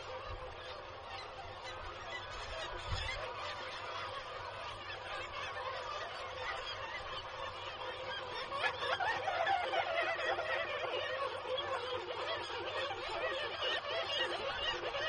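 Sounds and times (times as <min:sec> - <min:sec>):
kittiwakes calling: 0:00.0 - 0:15.0.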